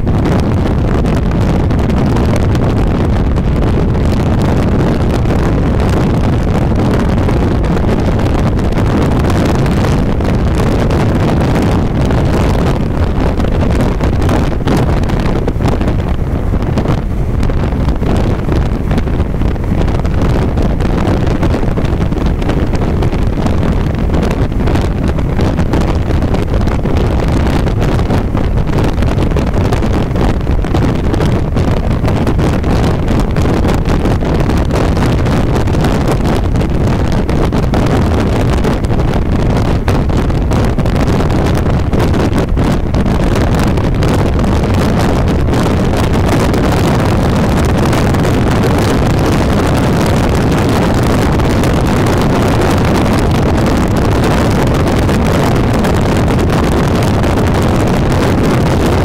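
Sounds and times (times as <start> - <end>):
car road noise at highway speed: 0.0 - 59.0
wind buffeting microphone: 0.0 - 59.0.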